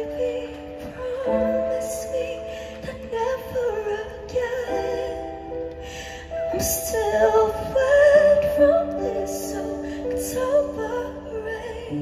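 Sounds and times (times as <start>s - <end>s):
held keyboard chords: 0.0s - 12.0s
woman singing a slow ballad: 0.0s - 12.0s.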